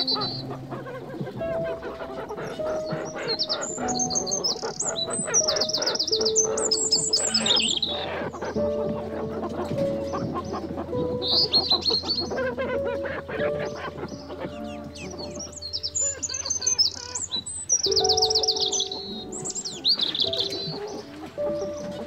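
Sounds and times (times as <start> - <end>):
hens clucking: 0.0 - 22.0
small birds chirping: 0.0 - 22.0.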